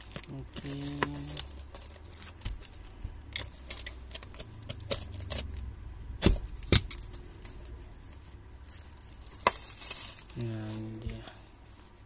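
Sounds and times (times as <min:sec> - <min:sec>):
tape and cardboard crackling: 0:00.0 - 0:12.0.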